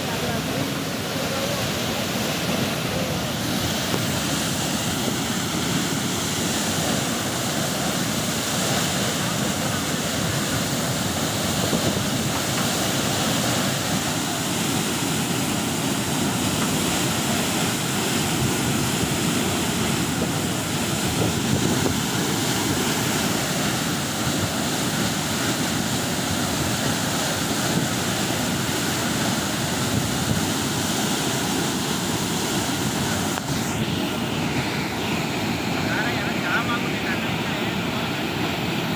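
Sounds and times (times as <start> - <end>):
water gushing from burst pipe: 0.0 - 38.9.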